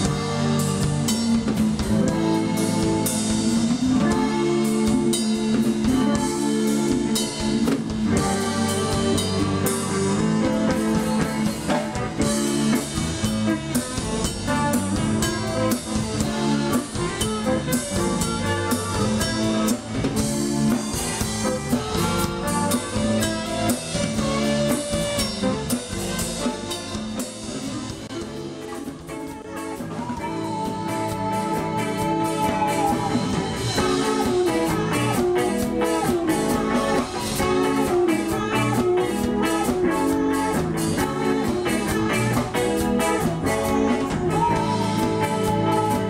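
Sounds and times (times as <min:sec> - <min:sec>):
drum kit: 0:00.0 - 0:46.0
guitar: 0:00.0 - 0:46.0
saxophone: 0:00.0 - 0:46.0.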